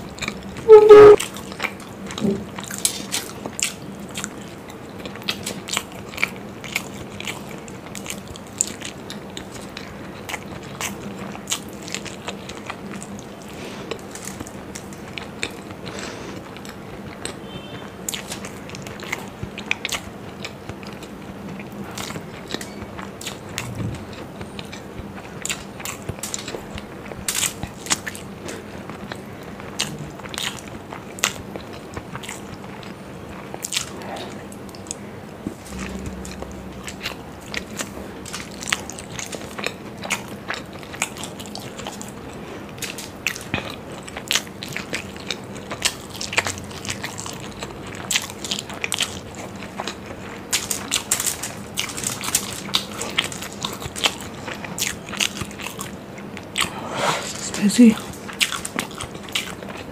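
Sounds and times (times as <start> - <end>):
close chewing with mouth clicks: 0.0 - 36.0, 36.9 - 59.9.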